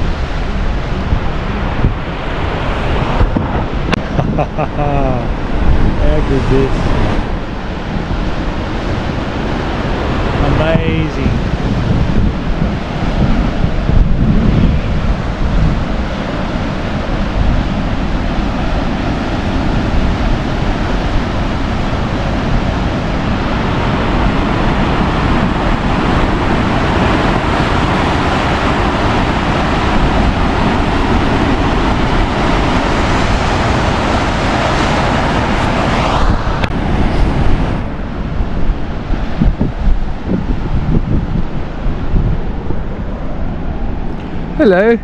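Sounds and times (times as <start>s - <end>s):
ocean surf: 0.0s - 45.0s
wind buffeting microphone: 0.0s - 45.0s.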